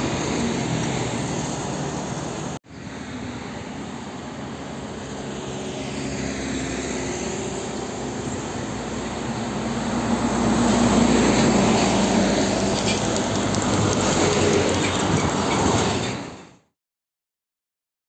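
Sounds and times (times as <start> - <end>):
diesel trucks passing: 0.0 - 16.6.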